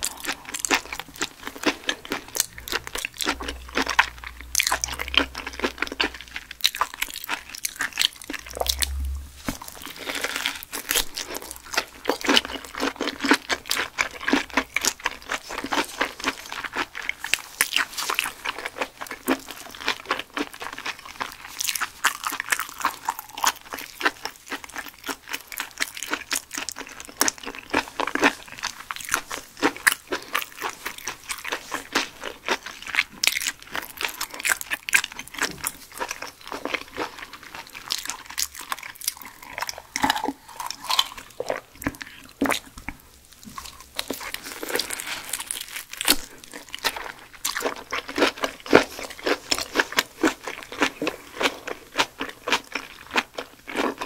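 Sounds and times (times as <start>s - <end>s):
wet crunchy chewing: 0.0s - 54.0s.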